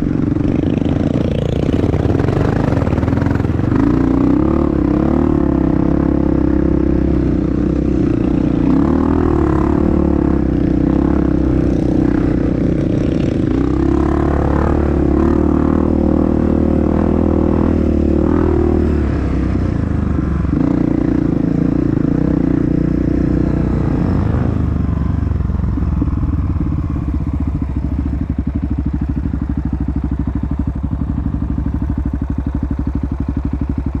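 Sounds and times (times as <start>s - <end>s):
dirt bike engine running: 0.0s - 34.0s.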